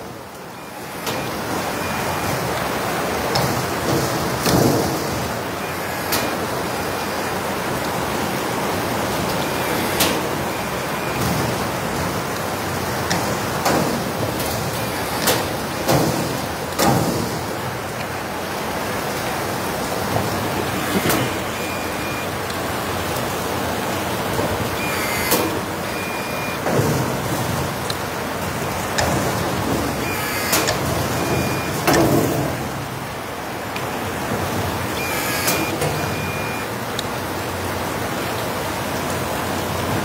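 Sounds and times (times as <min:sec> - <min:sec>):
heavy rain hissing: 0:00.0 - 0:40.0.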